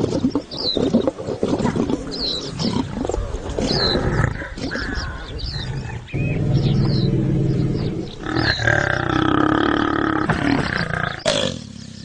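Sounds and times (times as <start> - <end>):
bird calling: 0.1 - 12.0
lions growling: 1.4 - 12.0.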